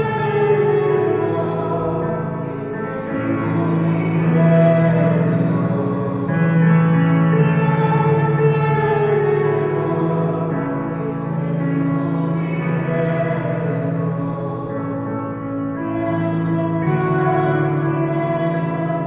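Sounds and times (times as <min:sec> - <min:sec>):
people singing a hymn: 0:00.0 - 0:19.0.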